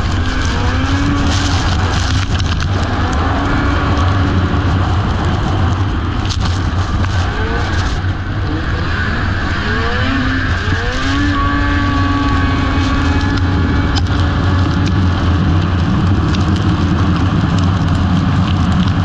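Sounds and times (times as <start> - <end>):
snowmobile engines revving: 0.0 - 17.6
low rumble: 0.0 - 19.0.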